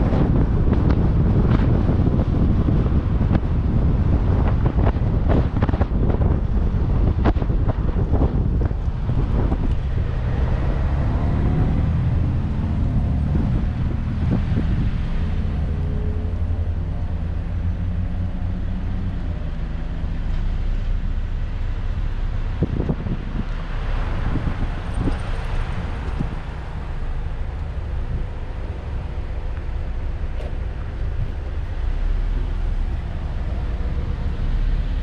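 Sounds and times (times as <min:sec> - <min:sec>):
engine and tyre rumble: 0:00.0 - 0:35.0.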